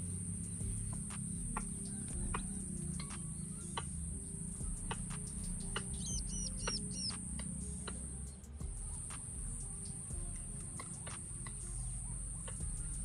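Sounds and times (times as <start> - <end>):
high-pitched insect buzz: 0.0 - 13.0
small birds chirping: 0.0 - 13.0.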